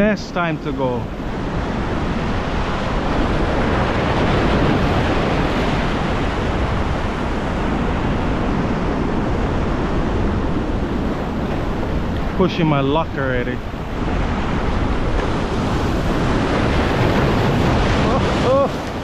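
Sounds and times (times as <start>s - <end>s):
ocean surf washing on shore: 0.0s - 19.0s
wind rumbling on microphone: 0.0s - 19.0s.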